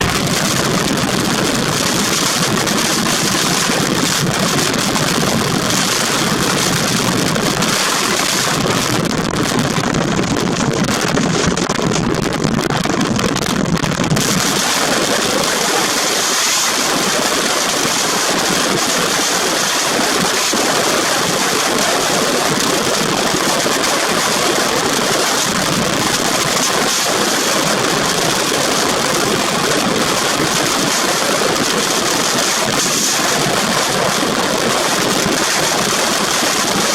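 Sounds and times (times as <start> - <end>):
strong wind blowing: 0.0 - 36.9.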